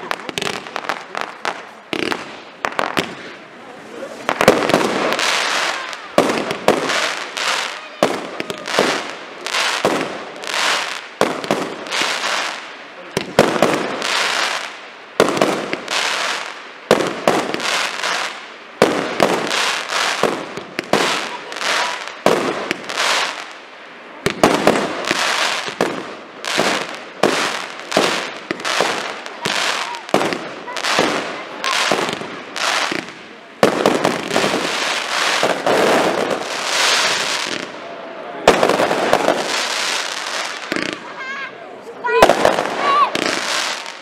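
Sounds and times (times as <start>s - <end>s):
fireworks bangs: 0.0s - 44.0s
hiss and crackle of fireworks: 0.0s - 44.0s.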